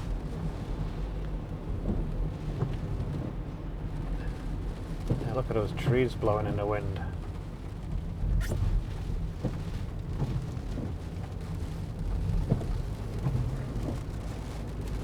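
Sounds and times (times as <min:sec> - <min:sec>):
car cabin low rumble: 0:00.0 - 0:15.0
rain noise: 0:00.0 - 0:15.0.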